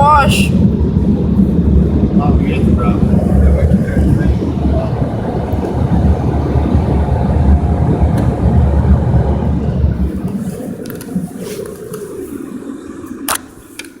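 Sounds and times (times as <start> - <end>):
car wash machinery rushing: 0.0 - 14.0.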